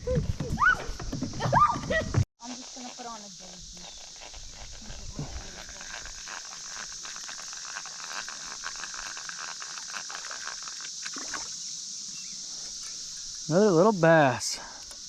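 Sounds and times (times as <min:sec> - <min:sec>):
cicadas hissing: 0:00.0 - 0:15.0.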